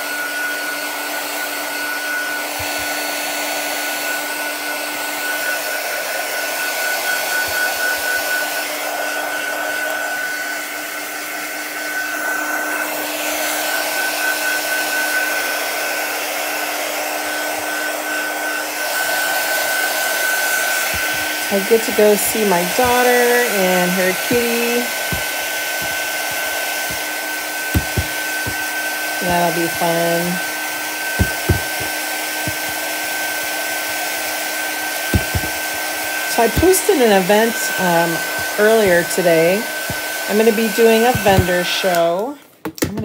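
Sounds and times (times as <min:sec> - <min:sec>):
blow dryer running: 0:00.0 - 0:42.6.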